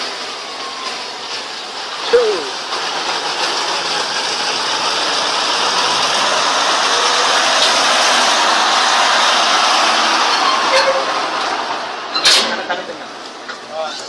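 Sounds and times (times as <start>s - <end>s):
vehicle running rushing noise: 0.0s - 13.2s.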